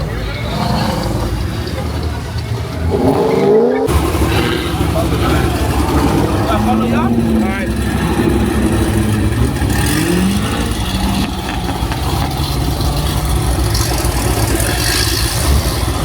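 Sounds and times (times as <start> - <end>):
car engine rumbling and revving: 0.0 - 16.0.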